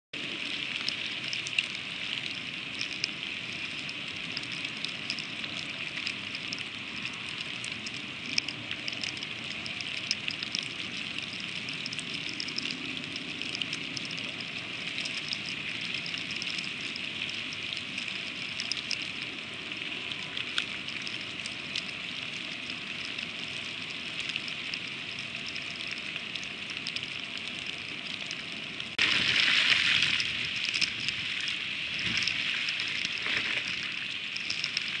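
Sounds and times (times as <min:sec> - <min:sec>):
freezing rain ticking: 0:00.2 - 0:35.0.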